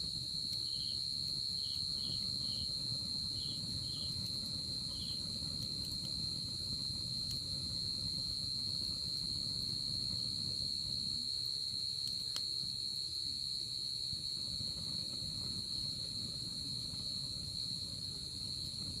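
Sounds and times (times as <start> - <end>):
fire popping: 0.0 - 13.0, 14.1 - 19.0
night insects trilling: 0.0 - 19.0
wood fire crackling: 0.0 - 19.0.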